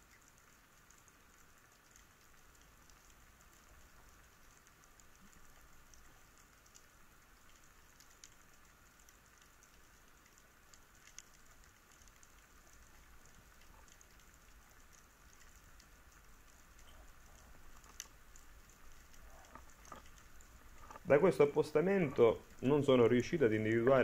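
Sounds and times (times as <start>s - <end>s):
steady underwater hiss: 0.0s - 24.0s
underwater crackling clicks and pops: 0.0s - 24.0s.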